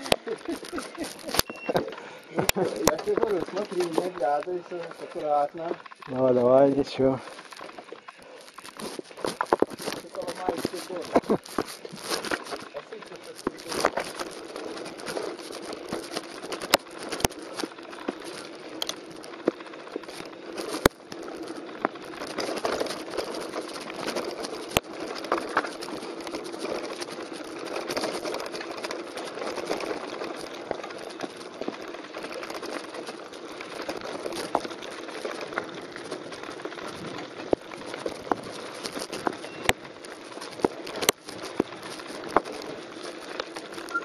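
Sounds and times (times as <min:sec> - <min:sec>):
bike clicks and rattles: 0:00.0 - 0:44.0
bike tyres crunching on gravel: 0:00.0 - 0:44.0.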